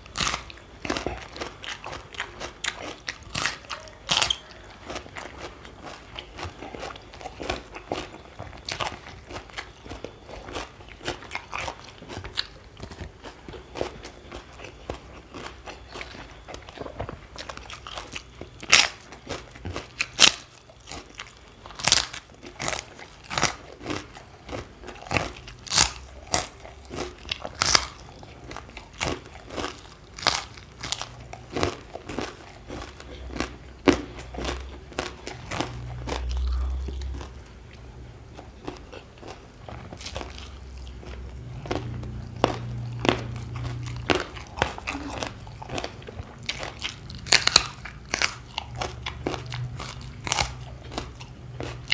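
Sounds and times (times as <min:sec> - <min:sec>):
crunching raw vegetables: 0:00.0 - 0:51.9.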